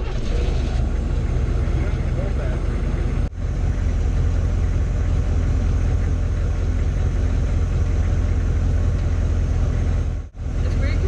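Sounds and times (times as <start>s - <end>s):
diesel engine drone inside cabin: 0.0s - 11.0s.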